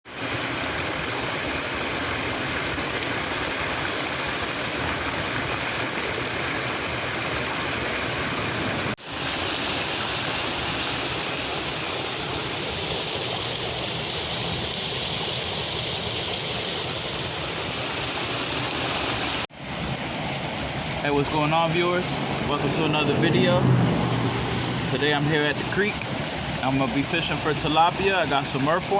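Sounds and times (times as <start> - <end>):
creek water rushing: 0.1 - 28.9.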